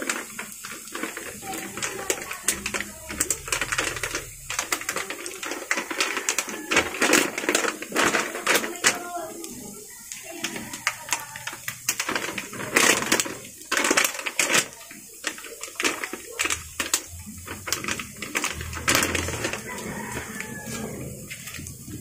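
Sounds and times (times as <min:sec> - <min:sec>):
food frying in hot oil: 0:00.0 - 0:22.0.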